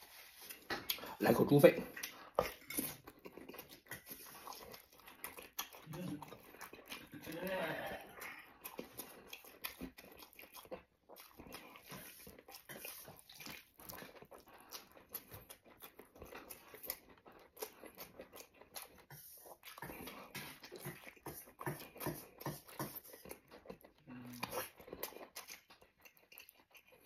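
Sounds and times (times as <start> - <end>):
wet chewing and mouth smacking: 0.1 - 27.0.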